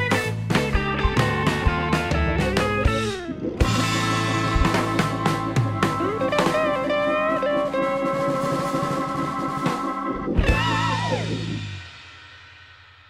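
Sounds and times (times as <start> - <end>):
bending lead guitar line: 0.0 - 11.9
drums: 0.0 - 13.0.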